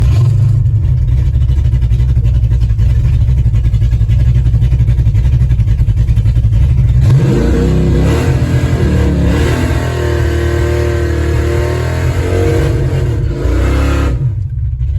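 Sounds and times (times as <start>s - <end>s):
engine rumbling and revving: 0.0s - 14.9s.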